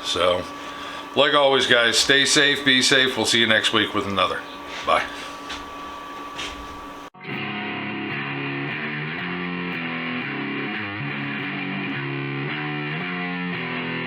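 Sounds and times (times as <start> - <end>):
distorted electric guitar riff: 0.0 - 14.0.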